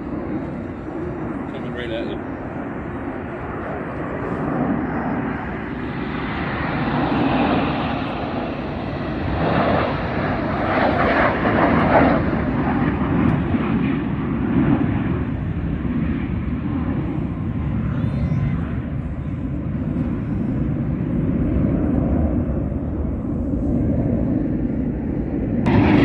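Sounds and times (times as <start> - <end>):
jet flying overhead roar: 0.0 - 26.0.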